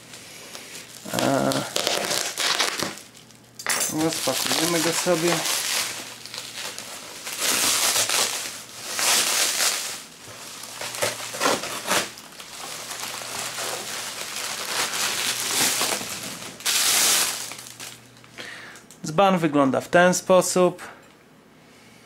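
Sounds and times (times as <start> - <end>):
bubble wrap rustling: 0.0 - 18.3.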